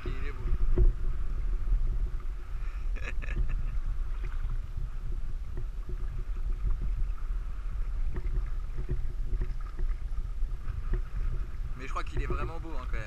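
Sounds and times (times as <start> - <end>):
wind and water rumble: 0.0 - 13.0.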